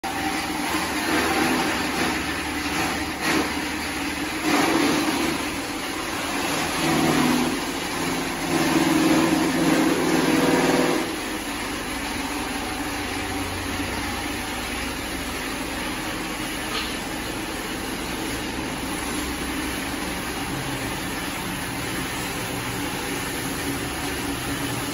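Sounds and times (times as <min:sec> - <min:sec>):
farm machinery humming: 0:00.0 - 0:24.9.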